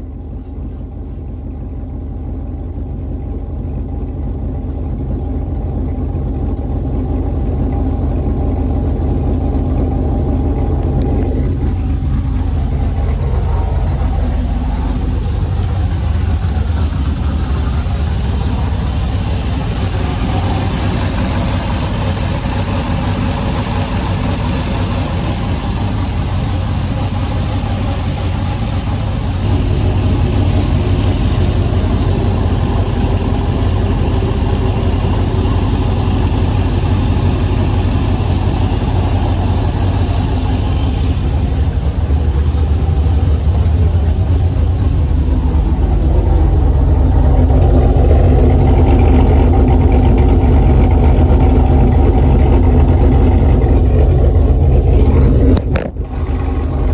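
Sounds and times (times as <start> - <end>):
car engine idling: 0.0 - 56.9.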